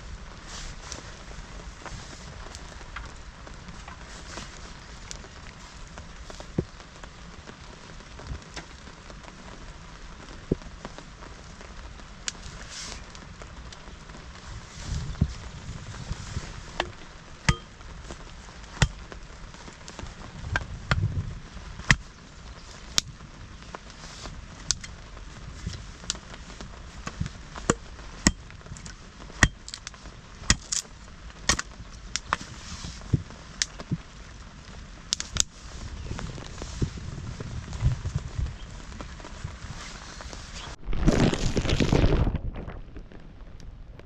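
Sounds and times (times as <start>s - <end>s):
rain hissing: 0.0s - 44.0s.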